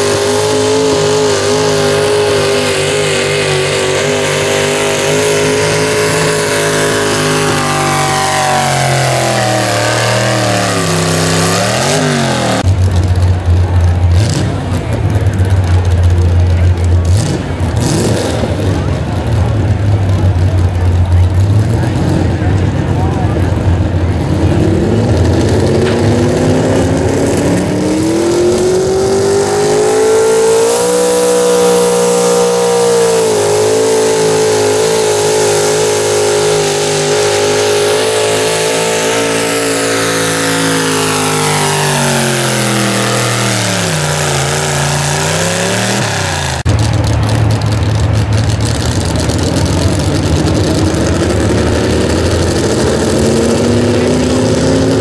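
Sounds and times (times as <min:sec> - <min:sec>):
truck engine at full throttle: 0:00.0 - 0:55.0
truck engine revving: 0:00.0 - 0:55.0.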